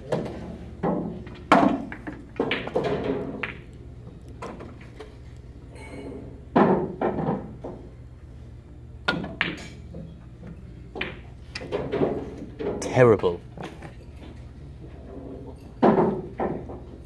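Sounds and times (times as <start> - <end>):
pool balls knocking together: 0.0 - 5.3, 6.2 - 7.9, 9.0 - 12.9, 13.6 - 17.0.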